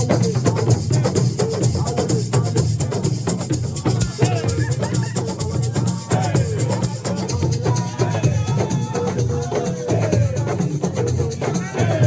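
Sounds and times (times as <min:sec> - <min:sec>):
drums: 0:00.0 - 0:12.0
shaker rhythm: 0:00.0 - 0:12.0
voices singing: 0:00.0 - 0:12.0.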